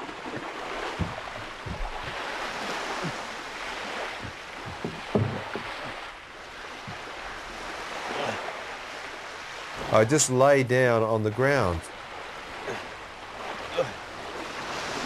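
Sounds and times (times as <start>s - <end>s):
water sloshing in shallows: 0.0s - 15.0s
water splashes: 0.0s - 15.0s.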